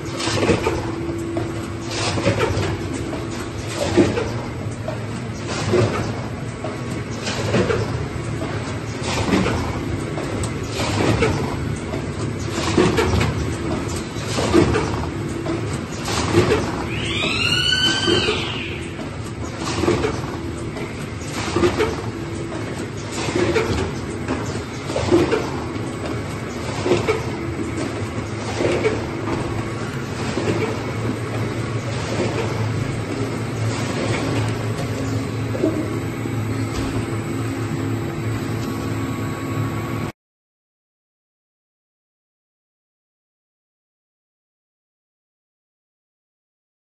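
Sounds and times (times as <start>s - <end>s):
machine humming: 0.0s - 40.1s.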